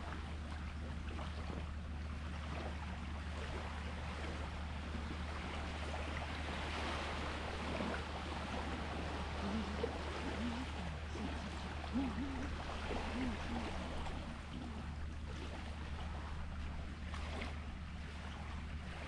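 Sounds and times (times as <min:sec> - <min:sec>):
constant low hum: 0:00.0 - 0:19.0
sea water washing and lapping: 0:00.0 - 0:19.0.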